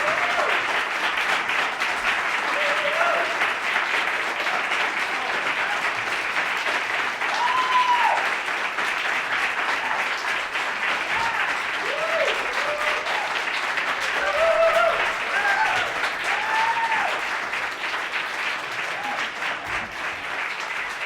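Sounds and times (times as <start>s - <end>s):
audience applauding: 0.0s - 21.0s
people cheering: 0.0s - 21.0s.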